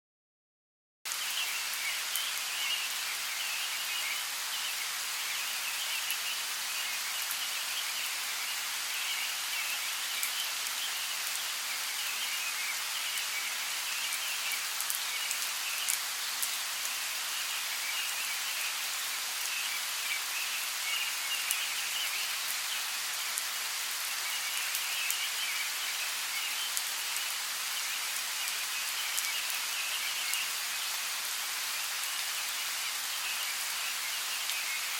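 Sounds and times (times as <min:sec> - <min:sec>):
rain falling on foliage: 0:01.1 - 0:34.9.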